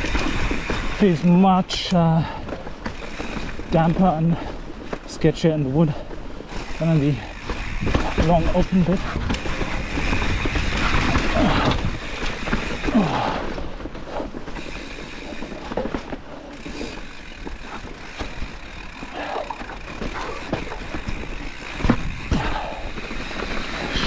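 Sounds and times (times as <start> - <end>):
bike chain and frame rattling: 0.0 - 24.0
bike tyres on rocky trail: 0.0 - 24.0.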